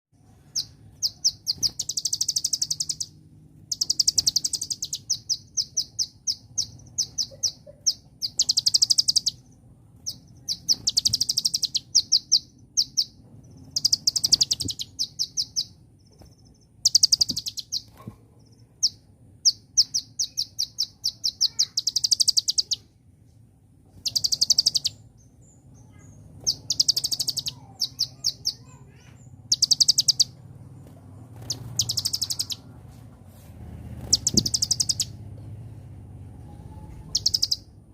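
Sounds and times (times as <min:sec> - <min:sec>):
sunbird singing trills: 0:00.3 - 0:22.9, 0:24.0 - 0:32.7, 0:34.0 - 0:35.2, 0:36.6 - 0:37.8.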